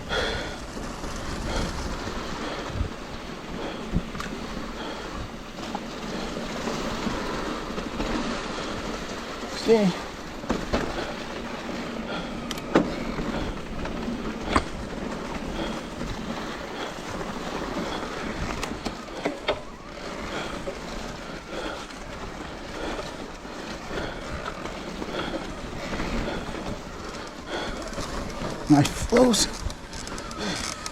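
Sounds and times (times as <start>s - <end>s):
bike tyres rushing on dirt: 0.0s - 30.9s
bike knocking over bumps: 5.6s - 30.9s.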